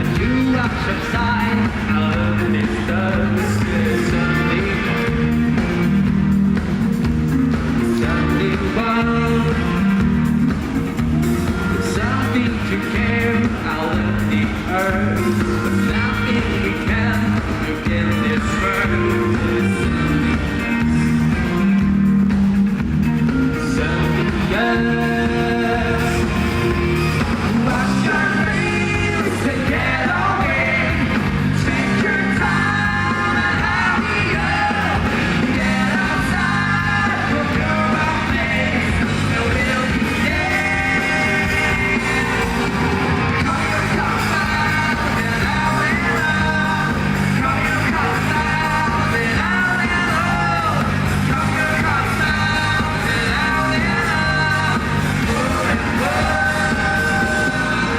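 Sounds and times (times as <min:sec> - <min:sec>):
man singing: 0:00.0 - 0:06.1, 0:07.5 - 0:10.7, 0:11.3 - 0:21.9, 0:23.3 - 0:57.9
live rock band: 0:00.0 - 0:57.9.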